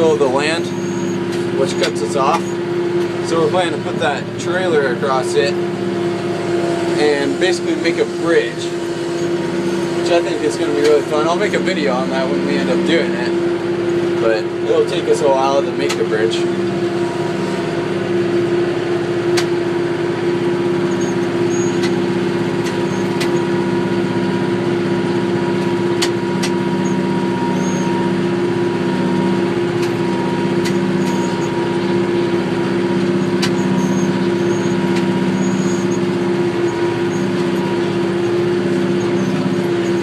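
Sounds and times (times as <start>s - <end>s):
tractor engine running under load: 0.0s - 40.0s.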